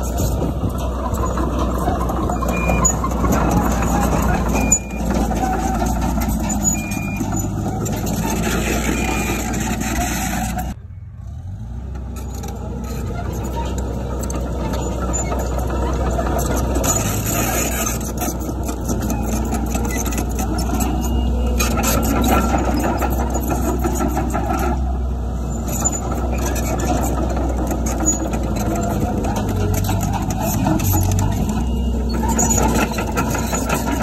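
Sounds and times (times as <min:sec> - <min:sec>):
heavy diesel machinery rumbling: 0:00.0 - 0:34.0.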